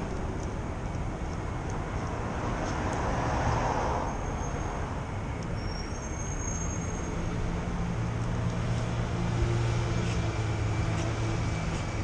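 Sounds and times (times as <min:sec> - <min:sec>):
vehicle passing: 0:00.0 - 0:05.4, 0:06.6 - 0:12.0
street traffic noise: 0:00.0 - 0:12.0.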